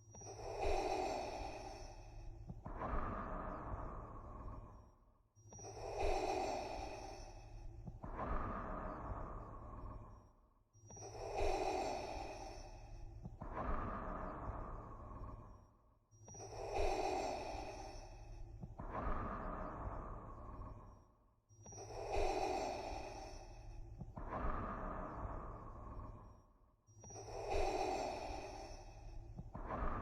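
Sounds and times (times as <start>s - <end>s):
respirator breathing: 0.1s - 5.0s, 5.6s - 10.3s, 10.9s - 15.7s, 16.3s - 30.0s.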